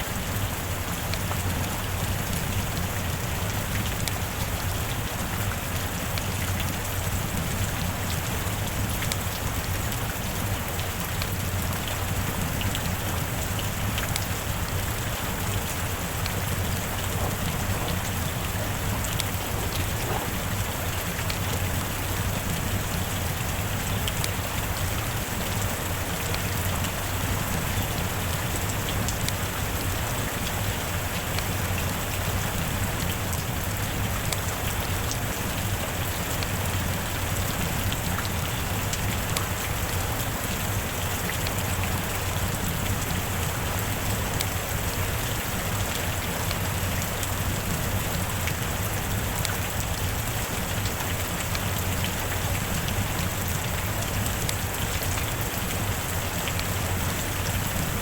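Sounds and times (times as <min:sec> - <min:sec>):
heavy rain hissing: 0:00.0 - 0:58.0
sharp rain drop ticks: 0:00.9 - 0:58.0.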